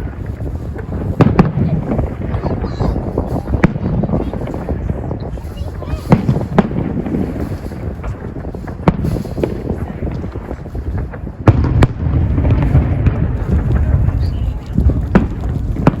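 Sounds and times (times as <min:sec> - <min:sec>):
fireworks bangs: 0:00.0 - 0:16.0
low booming rumble: 0:00.0 - 0:16.0.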